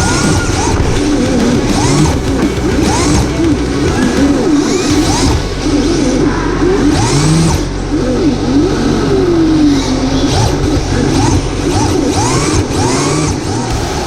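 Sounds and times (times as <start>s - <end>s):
rc car electric motors whining: 0.0s - 14.0s.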